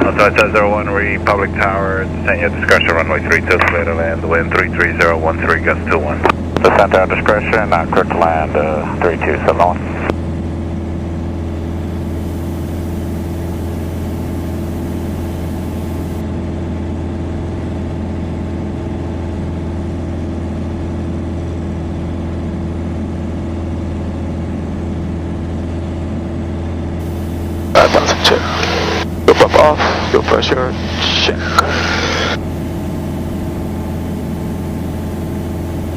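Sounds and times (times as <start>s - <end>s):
aircraft engine and propeller drone: 0.0s - 35.9s.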